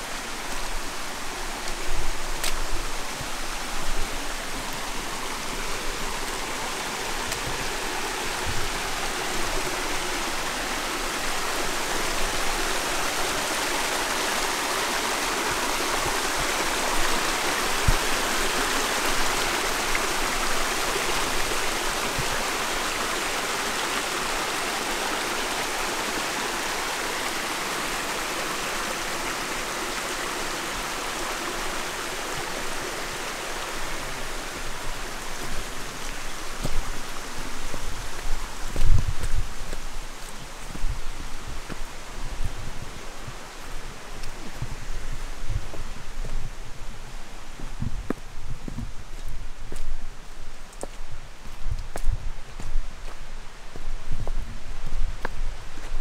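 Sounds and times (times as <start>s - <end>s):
stream running water: 0.0s - 56.0s.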